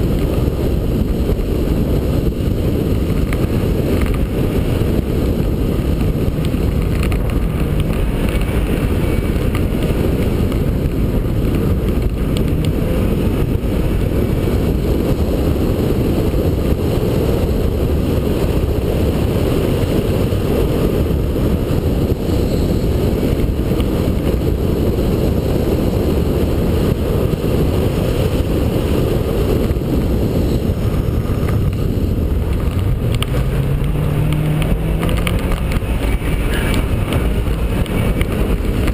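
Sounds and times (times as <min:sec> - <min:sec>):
rally car engine under load: 0:00.0 - 0:38.9
tyres rumbling on gravel: 0:00.0 - 0:38.9.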